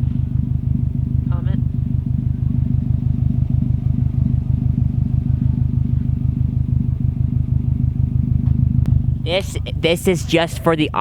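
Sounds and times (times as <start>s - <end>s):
car exhaust idling: 0.0s - 11.0s.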